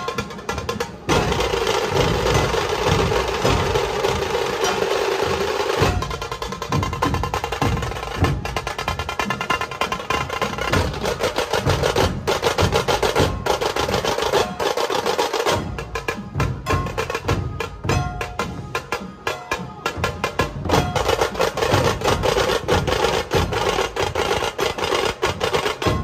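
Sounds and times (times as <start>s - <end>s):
fast rolling drum strokes: 0.0s - 26.0s
heavy drum beats: 0.0s - 26.0s.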